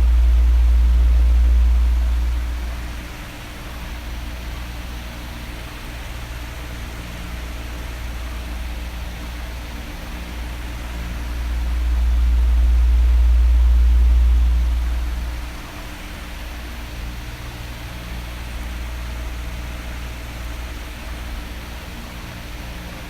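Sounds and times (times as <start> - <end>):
electric fan running: 0.0 - 23.0.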